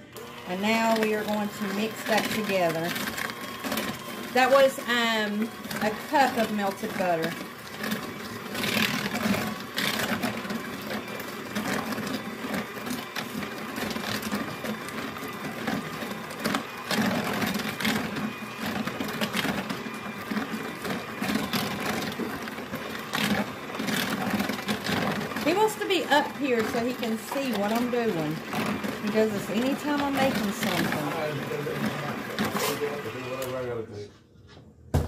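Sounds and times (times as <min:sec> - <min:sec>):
electric hand mixer running: 0:00.0 - 0:34.0.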